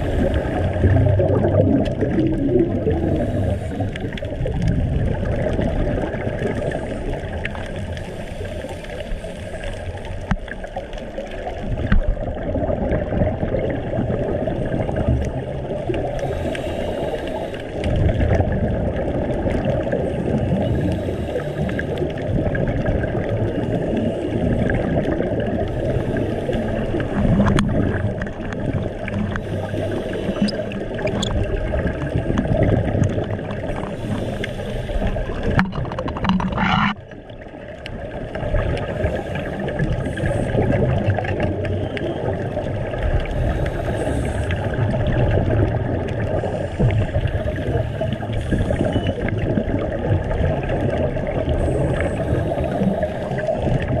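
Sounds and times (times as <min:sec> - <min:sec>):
gurgling exhaled bubbles: 0:00.0 - 0:54.0
underwater rushing rumble: 0:00.0 - 0:54.0.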